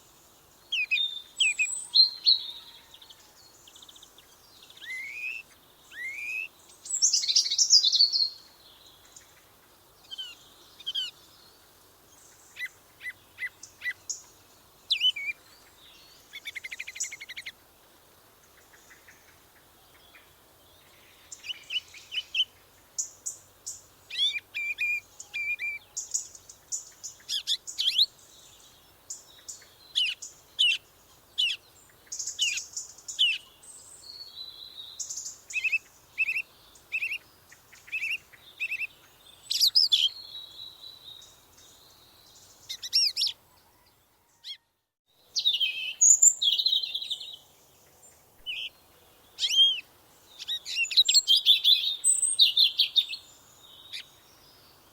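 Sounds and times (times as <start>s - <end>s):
songbirds singing and calling: 0.0s - 54.9s.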